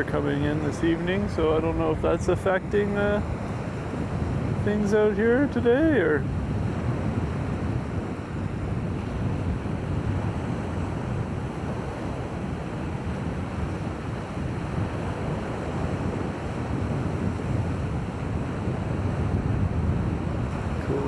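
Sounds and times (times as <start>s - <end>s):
shoreline surf: 0.0s - 21.0s
wind buffeting microphone: 0.0s - 21.0s.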